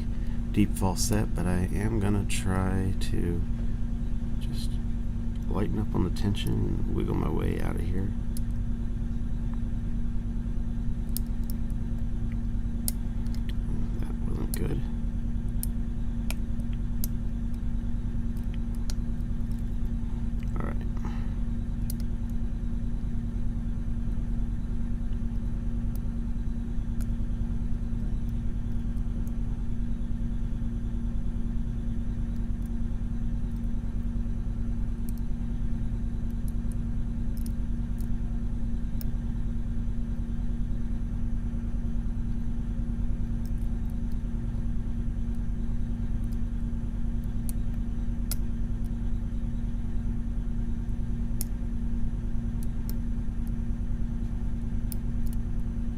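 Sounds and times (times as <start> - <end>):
low hum with held tone: 0.0 - 55.9.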